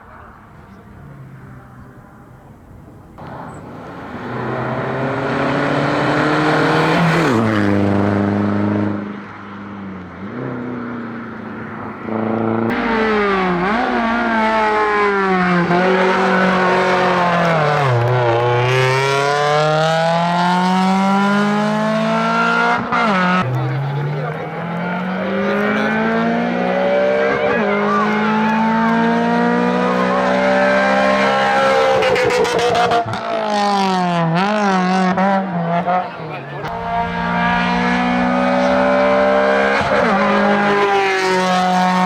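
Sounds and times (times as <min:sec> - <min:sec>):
rally car engine at full throttle: 0:00.0 - 0:42.0
rally car engine passing: 0:00.1 - 0:42.0.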